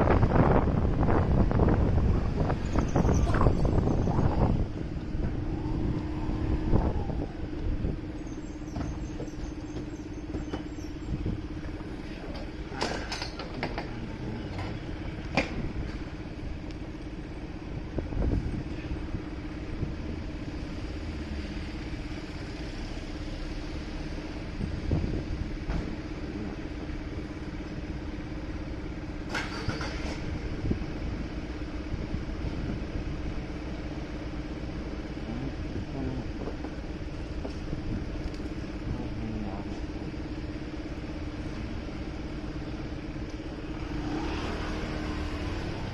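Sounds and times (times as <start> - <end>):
city traffic noise: 0.0 - 45.9.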